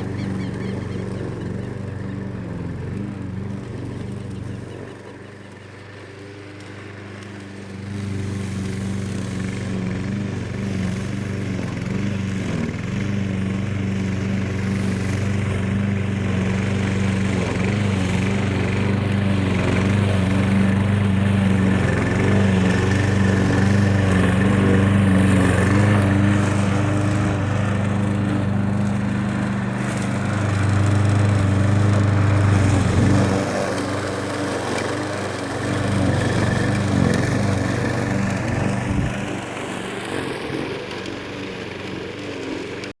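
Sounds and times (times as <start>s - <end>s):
lawn mower engine running: 0.0s - 43.0s.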